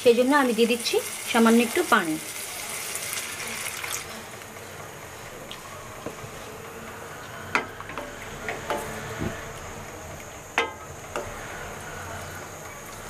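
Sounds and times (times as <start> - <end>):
low steady sizzle: 0.0 - 13.0.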